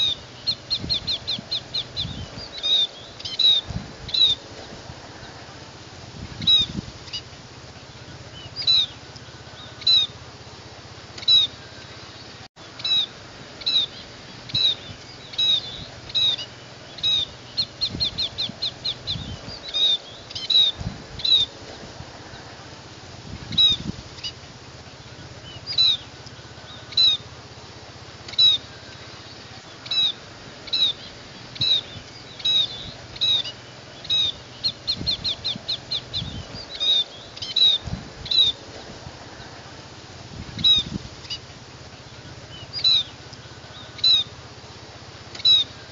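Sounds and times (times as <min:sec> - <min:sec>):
bird high call notes: 0:00.0 - 0:04.5, 0:06.4 - 0:10.4, 0:11.1 - 0:21.6, 0:23.5 - 0:27.6, 0:28.2 - 0:39.9, 0:40.6 - 0:44.6, 0:45.3 - 0:45.9.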